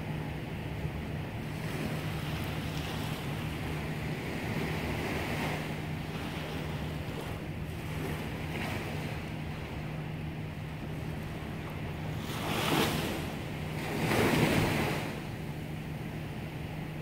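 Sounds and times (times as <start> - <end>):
low hum: 0.0 - 17.0
waves washing: 0.0 - 17.0.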